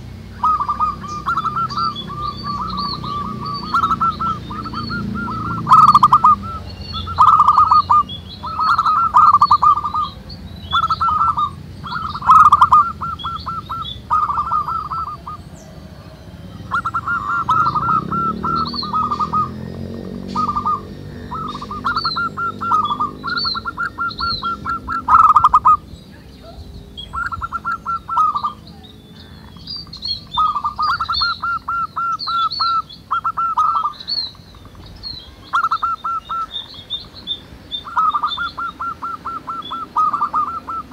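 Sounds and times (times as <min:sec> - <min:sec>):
doves cooing: 0:00.0 - 0:40.9
small birds chirping: 0:00.0 - 0:40.9.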